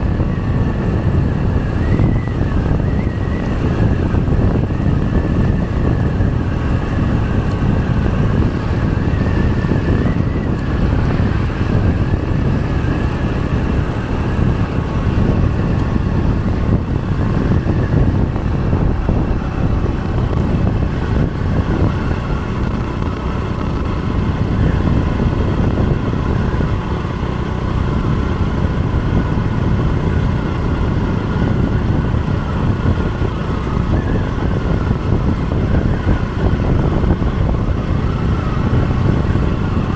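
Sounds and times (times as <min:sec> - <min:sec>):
motorbike engine whine: 0:00.0 - 0:39.9
wind and road noise: 0:00.0 - 0:39.9.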